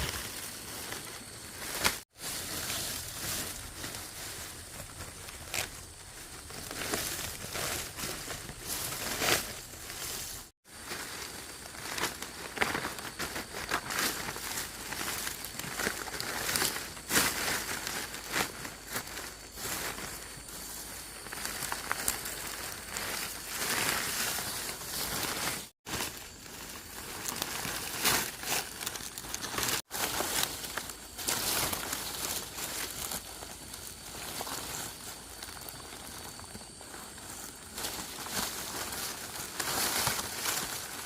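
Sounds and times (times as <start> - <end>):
rustling and crinkling: 0.0 - 41.0.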